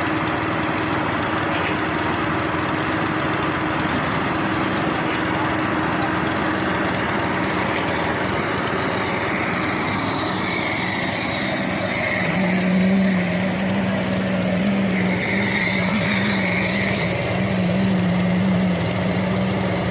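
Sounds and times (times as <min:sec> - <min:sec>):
machinery engine running: 0:00.0 - 0:19.9.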